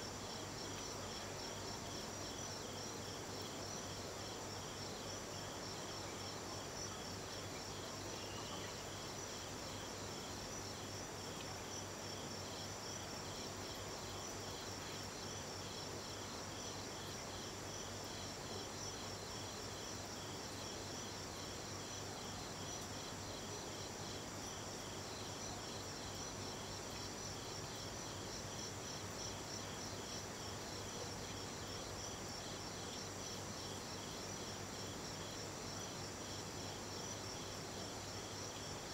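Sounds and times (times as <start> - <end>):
low background hiss: 0.0 - 38.9
night insects chirping: 0.0 - 38.9.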